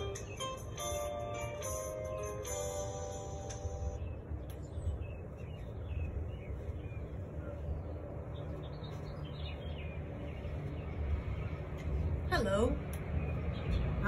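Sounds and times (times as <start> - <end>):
small birds chirping: 0.0 - 1.7, 3.5 - 14.0
steady low rumble: 2.7 - 14.0.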